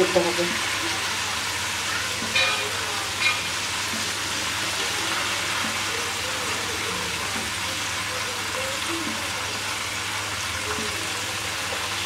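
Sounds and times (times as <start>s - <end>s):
chicken deep-frying in oil: 0.0s - 12.0s
spatula and skimmer turning food: 0.0s - 12.0s.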